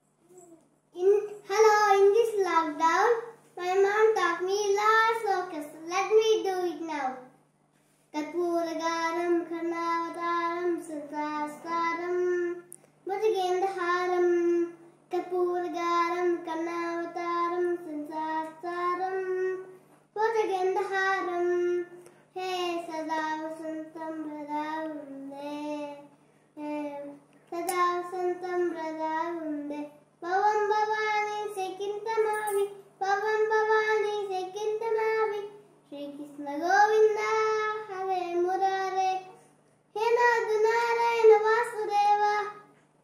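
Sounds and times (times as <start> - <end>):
faint steady hum: 0.0 - 43.0
boy singing unaccompanied: 1.0 - 7.3, 8.2 - 42.7.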